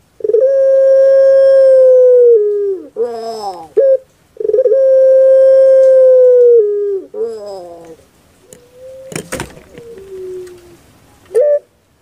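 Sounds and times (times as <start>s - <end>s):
dove cooing: 0.0s - 11.7s.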